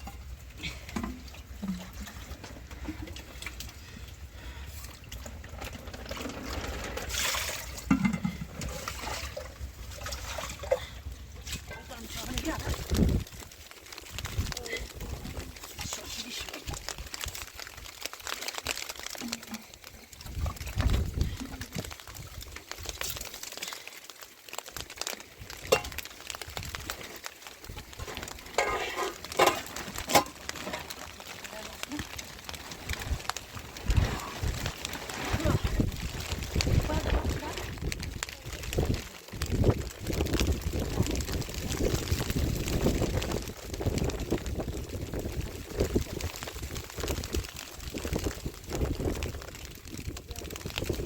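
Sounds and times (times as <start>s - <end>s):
water trickling and splashing: 0.0s - 51.0s.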